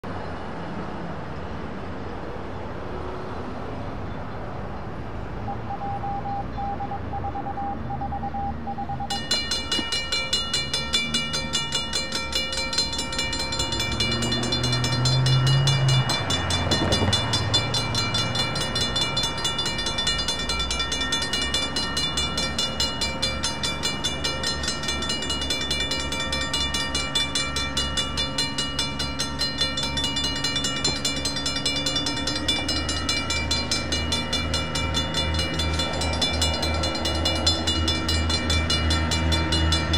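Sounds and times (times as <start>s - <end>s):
road traffic passing: 0.0s - 39.9s
crossing signal bell ringing: 5.4s - 39.9s.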